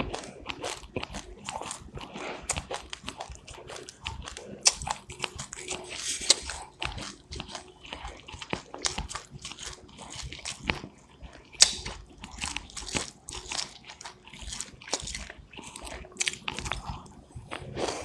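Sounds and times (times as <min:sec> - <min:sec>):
seeds being chewed crunching: 0:00.0 - 0:18.0.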